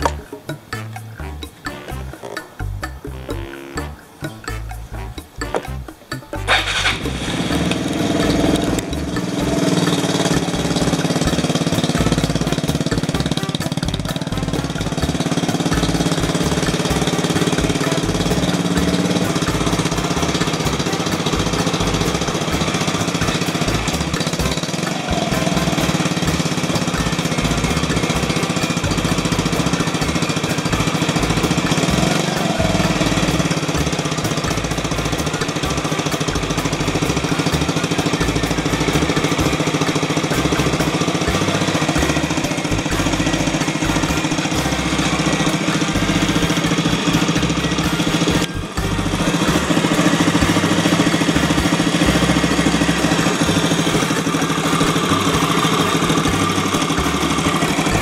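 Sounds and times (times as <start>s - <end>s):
scooter engine running: 0.0s - 4.0s, 4.6s - 58.0s.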